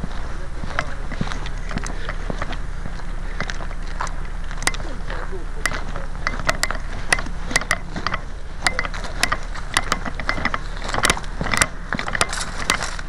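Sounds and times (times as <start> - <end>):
sharp mechanical clicks: 0.7 - 13.0.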